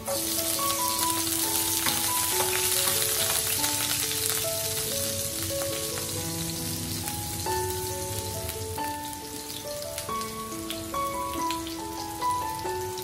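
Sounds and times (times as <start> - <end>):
onion sizzling in a frying pan: 0.0 - 13.0
soft background music: 0.0 - 13.0.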